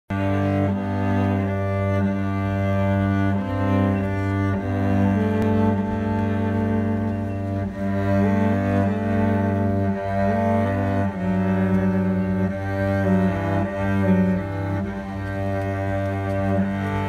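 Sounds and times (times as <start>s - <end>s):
solo cello slow melody: 0.1s - 17.0s.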